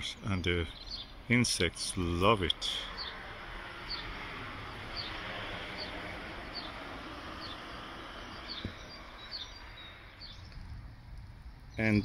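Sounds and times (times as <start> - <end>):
small bird chirping: 0.0 - 1.3, 2.5 - 12.0
steady background hiss: 0.0 - 12.0.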